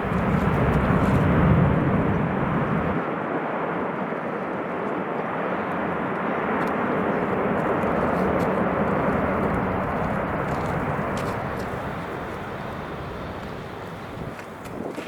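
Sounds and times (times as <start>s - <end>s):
wind buffeting microphone: 0.0s - 3.4s, 4.4s - 15.0s
jet engine noise: 0.0s - 15.0s.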